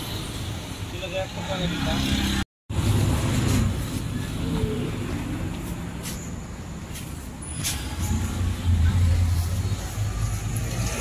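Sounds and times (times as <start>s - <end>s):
vehicle engine rumbling: 1.1s - 11.0s.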